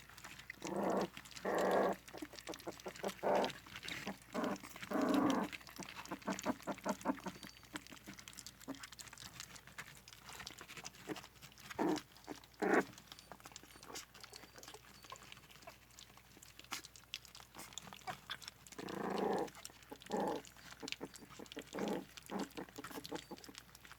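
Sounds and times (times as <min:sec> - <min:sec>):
puppies eating wet food: 0:00.0 - 0:23.9
puppies whining and yelping: 0:00.3 - 0:23.9.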